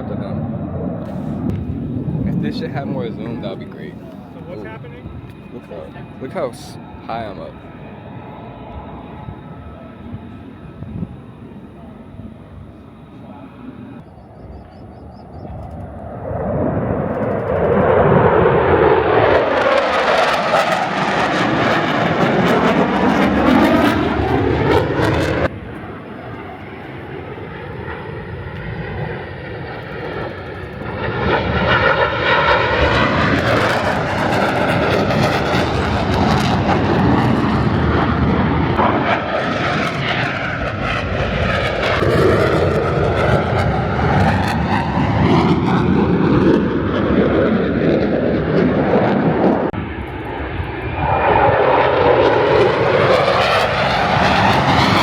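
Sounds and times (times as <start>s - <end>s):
jet aircraft flying overhead: 0.0s - 55.0s.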